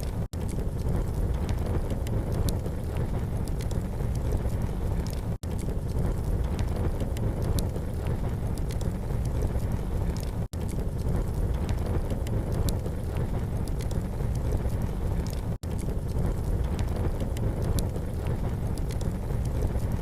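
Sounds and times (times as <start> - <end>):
campfire crackling and popping: 0.0 - 20.0
fire low rumble: 0.0 - 20.0.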